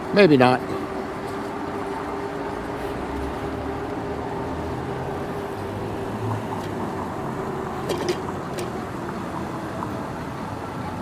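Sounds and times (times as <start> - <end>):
city traffic noise: 0.0 - 11.0
constant hum: 0.0 - 11.0.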